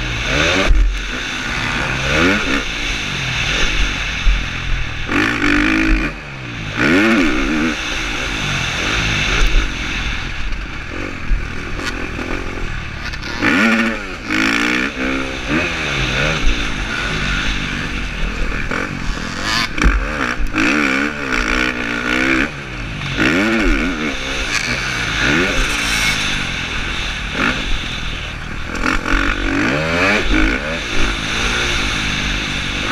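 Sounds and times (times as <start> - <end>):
motocross engine revving: 0.0 - 32.9.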